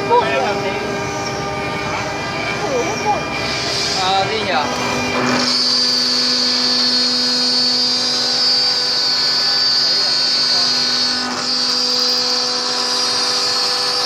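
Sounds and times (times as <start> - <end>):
high-pitched machine whine: 0.0 - 14.0
low machine hum: 0.0 - 14.0.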